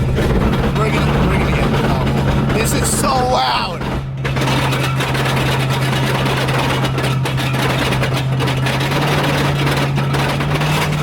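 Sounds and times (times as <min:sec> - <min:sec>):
broken driveshaft clattering: 0:00.0 - 0:11.0.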